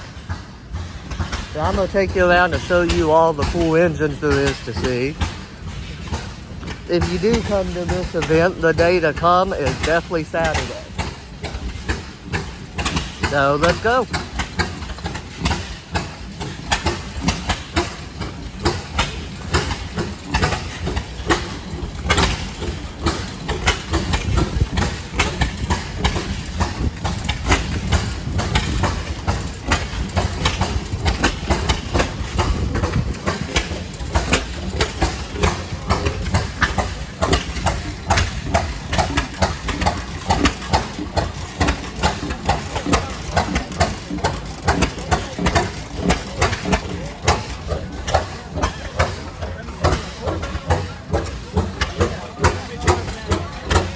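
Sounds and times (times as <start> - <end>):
old engines rumbling: 0.0 - 53.9.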